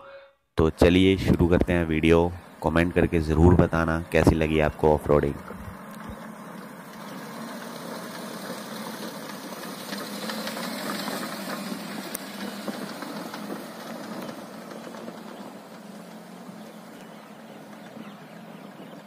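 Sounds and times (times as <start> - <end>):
car engine running: 0.8 - 19.0
tyres crunching on gravel: 0.8 - 19.0.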